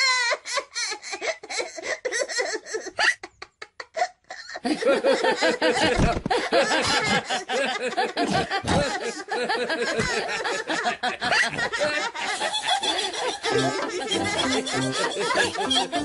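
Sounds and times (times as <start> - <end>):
cartoon characters laughing: 2.5 - 16.0.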